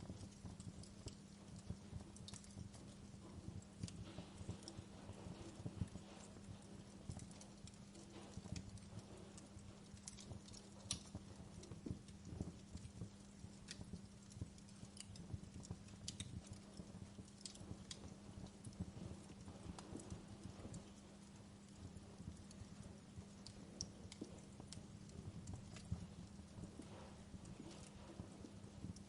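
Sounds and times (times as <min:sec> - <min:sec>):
campfire crackling and popping: 0:00.0 - 0:29.0
low steady hum: 0:00.0 - 0:29.0.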